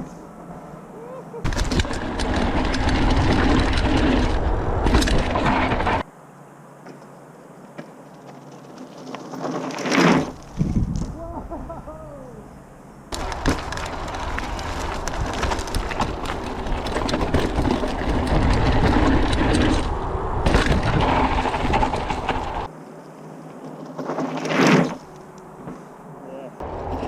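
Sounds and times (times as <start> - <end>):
bike clattering over rough ground: 1.4 - 6.1, 6.8 - 11.2, 13.1 - 25.8
bike tyres rushing on dirt: 1.5 - 6.1, 7.5 - 11.8, 13.1 - 27.0.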